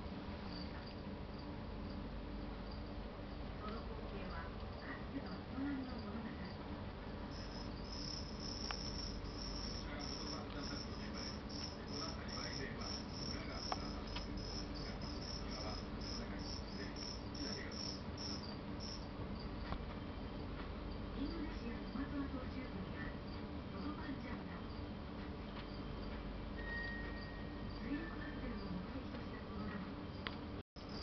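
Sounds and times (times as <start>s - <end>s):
low steady hum: 0.0s - 31.0s
cricket chirping: 0.4s - 6.6s, 7.2s - 22.1s, 25.6s - 28.8s, 29.6s - 31.0s.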